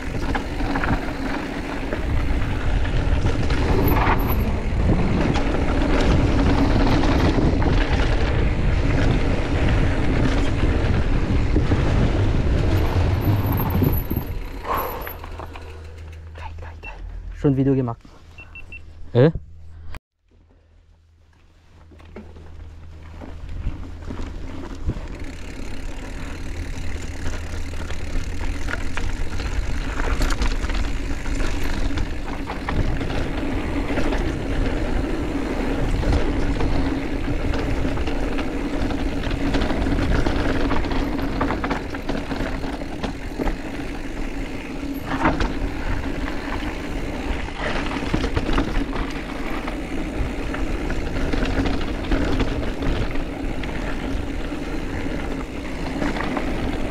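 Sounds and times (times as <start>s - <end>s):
bike knocks and rattles: 0.0s - 16.4s, 21.8s - 56.9s
mountain bike tyre rush: 0.0s - 18.8s, 21.5s - 56.9s.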